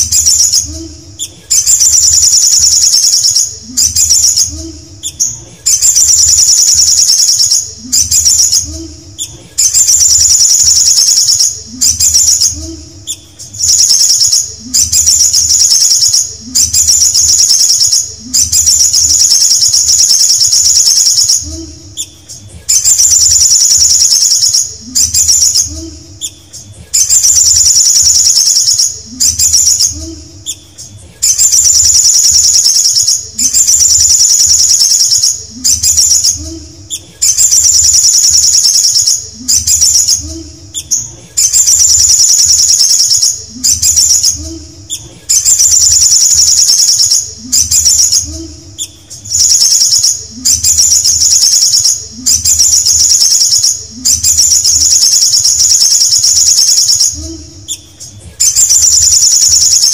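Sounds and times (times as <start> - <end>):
bird singing high rapid trill: 0.0 - 59.9.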